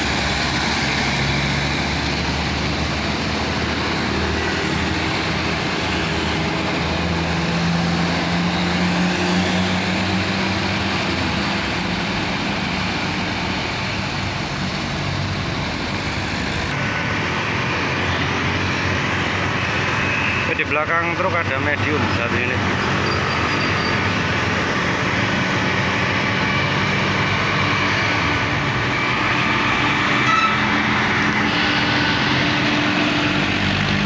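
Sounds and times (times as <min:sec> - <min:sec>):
bus diesel engine climbing: 0:00.0 - 0:34.0
road traffic noise: 0:00.0 - 0:34.0.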